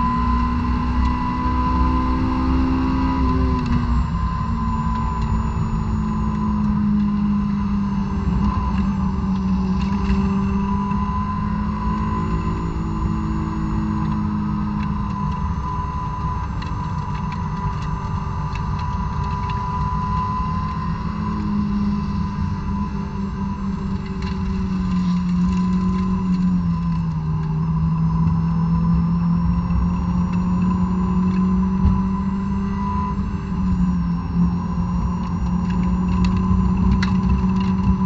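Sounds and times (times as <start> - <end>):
car engine at high revs: 0.0 - 38.0.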